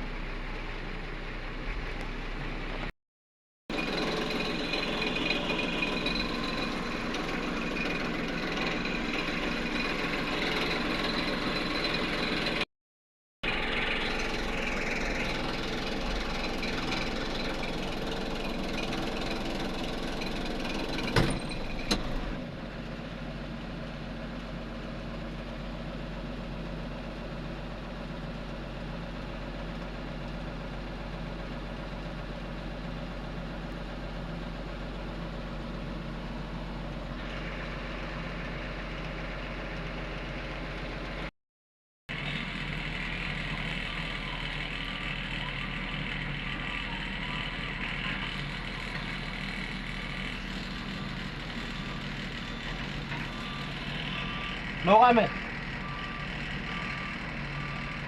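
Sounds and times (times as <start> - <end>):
diesel engine running: 0.0 - 3.0, 3.7 - 12.7, 13.4 - 41.3, 42.1 - 58.0.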